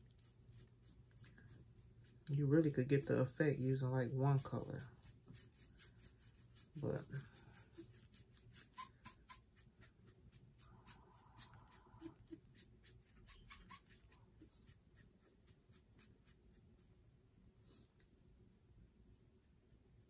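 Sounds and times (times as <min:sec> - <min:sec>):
sponge brush rubbing on metal tray: 0:00.0 - 0:17.0.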